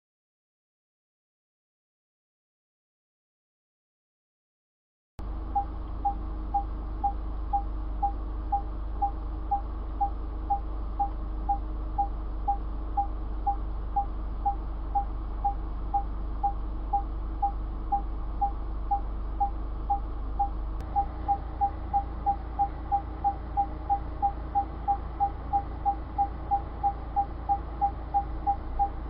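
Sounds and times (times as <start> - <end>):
low steady hum: 5.2 - 29.0
parking sensor beeping: 5.3 - 29.0.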